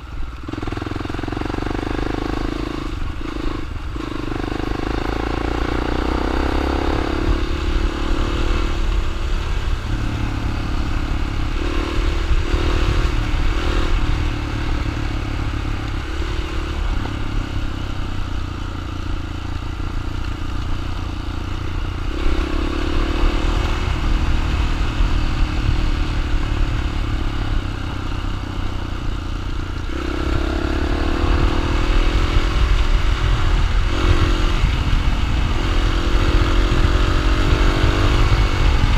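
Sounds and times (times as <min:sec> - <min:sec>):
dirt bike engine running: 0:00.0 - 0:38.9
heavy low rumble: 0:06.9 - 0:38.9.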